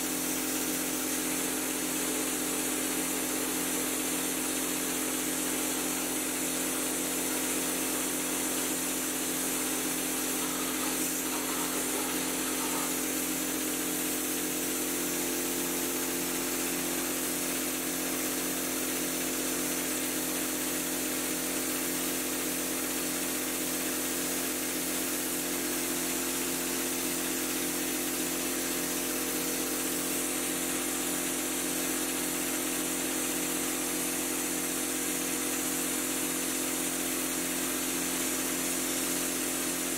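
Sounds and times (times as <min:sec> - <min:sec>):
spraying rig motor humming: 0:00.0 - 0:35.6.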